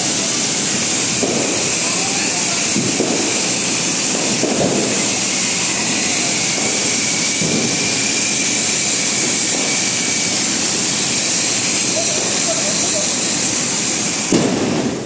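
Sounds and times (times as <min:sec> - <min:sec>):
firework hissing rush: 0:00.0 - 0:15.0.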